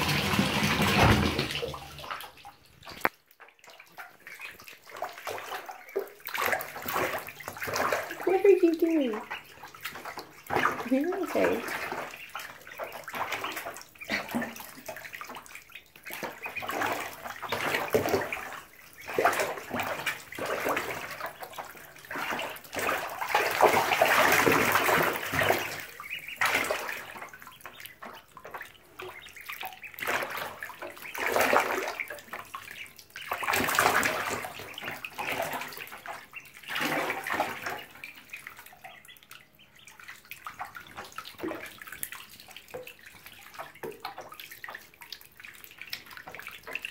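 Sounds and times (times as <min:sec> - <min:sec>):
water splashing in bathtub: 0:00.0 - 0:46.9.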